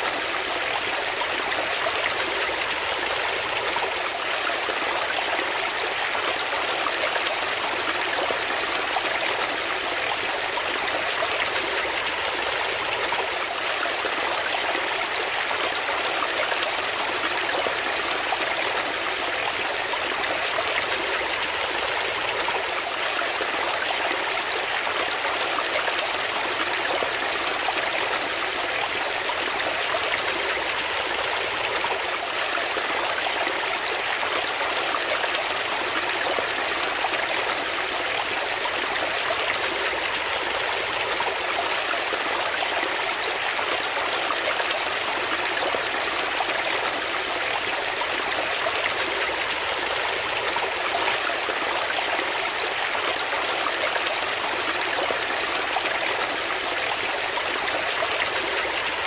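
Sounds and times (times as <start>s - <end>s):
brook water gurgling over rocks: 0.0s - 59.0s.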